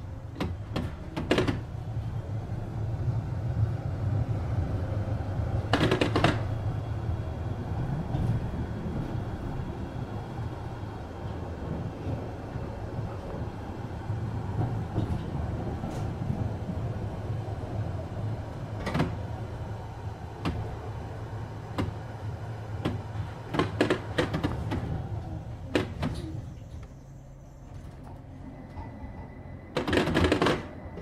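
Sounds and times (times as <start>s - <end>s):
tram rumbling: 0.0s - 31.0s.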